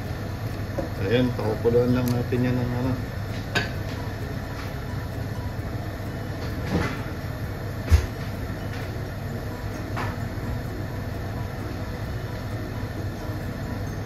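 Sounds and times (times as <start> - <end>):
gas burner rumble: 0.0 - 14.0.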